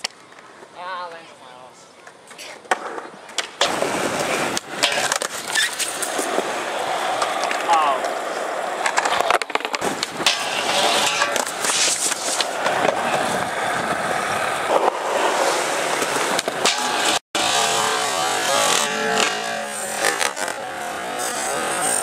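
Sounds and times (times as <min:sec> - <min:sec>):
skateboard wheels rolling on concrete: 0:00.0 - 0:22.0
skateboard clacks: 0:02.0 - 0:17.2, 0:18.7 - 0:22.0
skateboard sliding on rail: 0:02.6 - 0:22.0.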